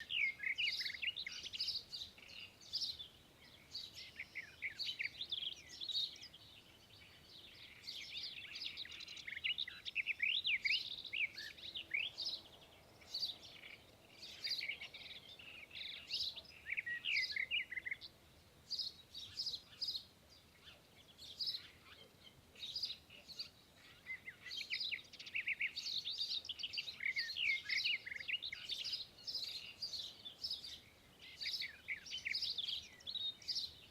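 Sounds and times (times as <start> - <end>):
songbirds chirping and twittering: 0.0 - 33.9.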